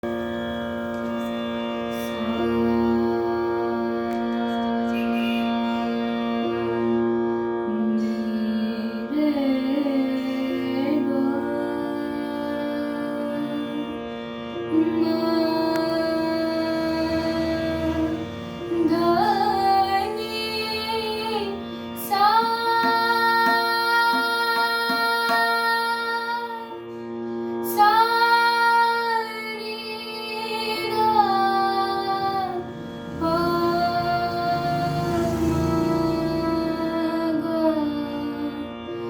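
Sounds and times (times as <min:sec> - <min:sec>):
steady drone: 0:00.0 - 0:39.0
woman singing sustained notes: 0:00.0 - 0:39.0.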